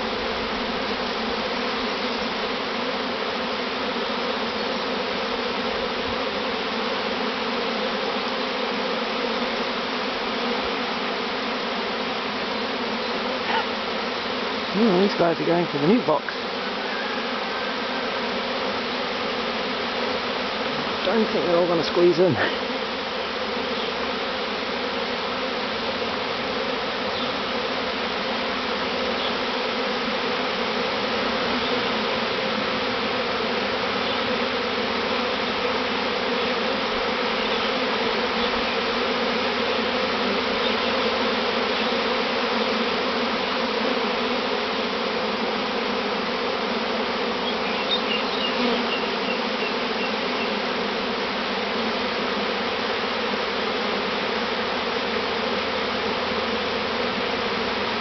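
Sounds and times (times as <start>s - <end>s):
bee swarm buzzing: 0.0s - 58.0s.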